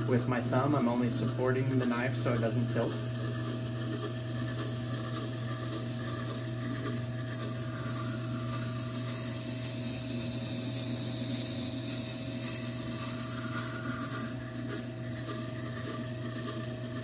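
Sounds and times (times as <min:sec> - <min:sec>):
sharpener motor humming: 0:00.0 - 0:17.0.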